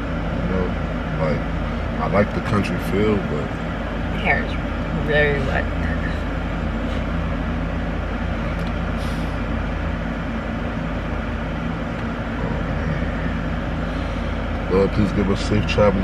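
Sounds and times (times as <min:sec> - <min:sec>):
car engine low hum: 0:00.0 - 0:16.0.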